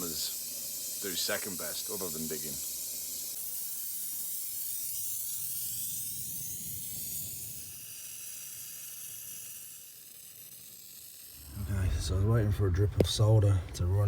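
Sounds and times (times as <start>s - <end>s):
gas torch hissing: 0.0s - 14.0s.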